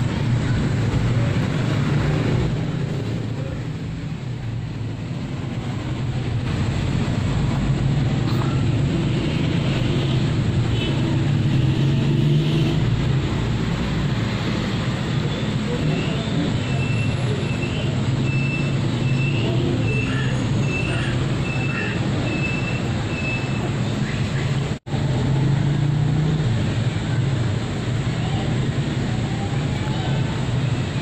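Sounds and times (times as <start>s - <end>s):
traffic noise: 0.0s - 31.0s.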